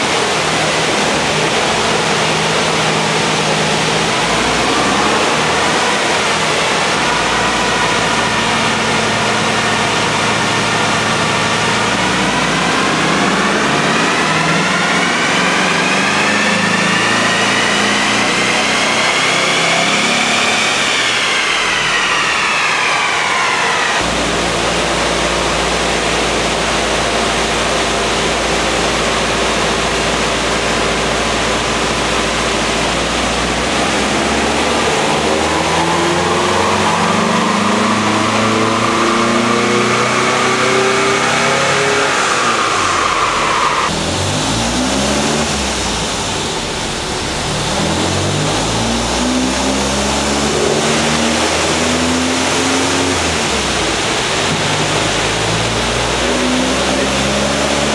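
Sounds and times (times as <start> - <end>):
car engine revving on a dyno: 0.0 - 57.9
high whine: 0.0 - 57.9.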